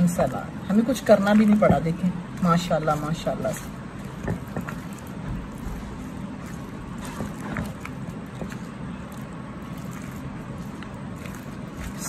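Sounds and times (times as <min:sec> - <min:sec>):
spatula stirring salad in bowl: 0:00.2 - 0:12.0.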